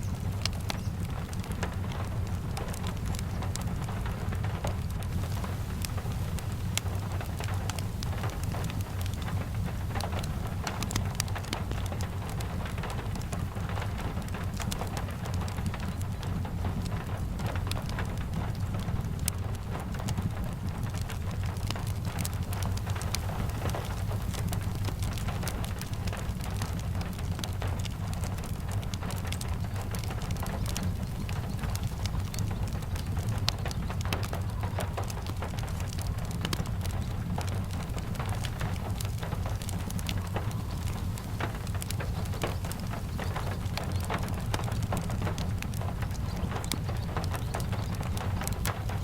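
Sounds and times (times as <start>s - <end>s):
steady rain: 0.0s - 49.0s
wood fire crackling: 0.0s - 49.0s.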